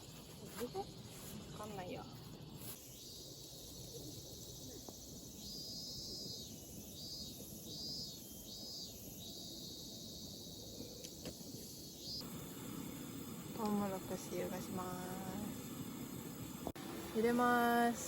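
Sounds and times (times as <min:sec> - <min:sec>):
insects calling: 0:00.6 - 0:16.6.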